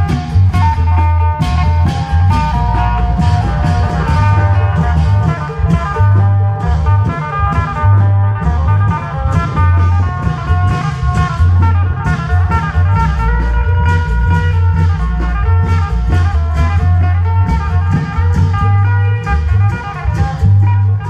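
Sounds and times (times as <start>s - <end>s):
plucked string melody: 0.0s - 20.0s
percussion strokes: 0.0s - 21.0s
pulsing long drum bass: 0.0s - 21.0s.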